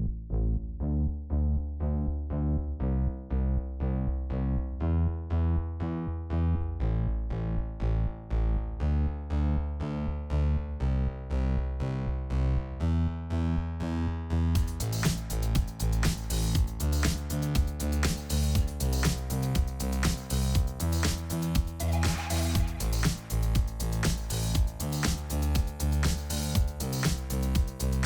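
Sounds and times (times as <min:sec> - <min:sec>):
synthesizer chords over bass: 0:00.0 - 0:28.0.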